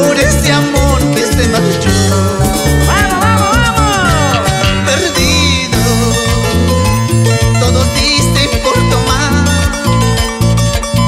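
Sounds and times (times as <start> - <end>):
bass line: 0.0 - 11.0
drums: 0.0 - 11.0
plucked-string melody: 1.6 - 11.0.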